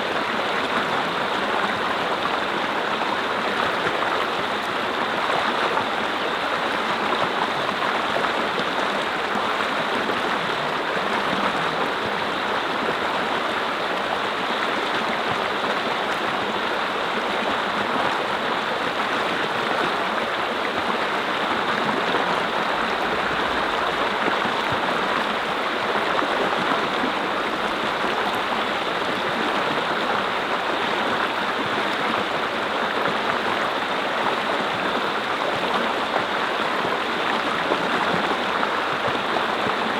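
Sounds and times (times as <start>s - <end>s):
water babbling over rocks: 0.0s - 39.9s.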